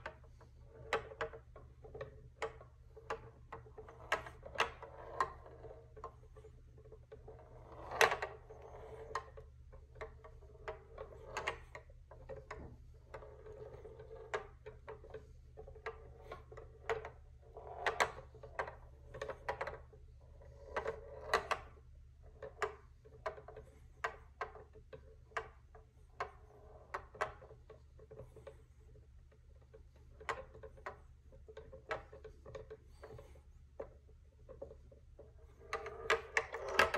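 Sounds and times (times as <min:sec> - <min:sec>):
ball rolling on wood: 0:00.0 - 0:36.9.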